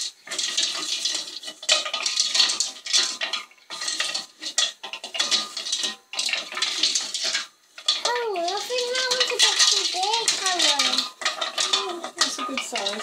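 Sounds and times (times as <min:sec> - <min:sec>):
stones scraping in a steel saucepan: 0:00.0 - 0:13.0.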